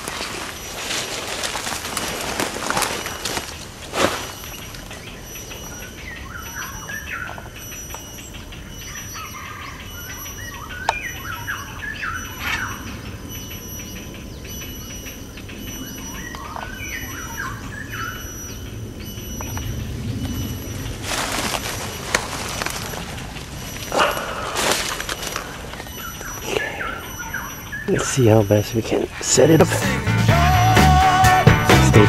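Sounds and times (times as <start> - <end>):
heron chicks chattering: 4.3 - 30.2.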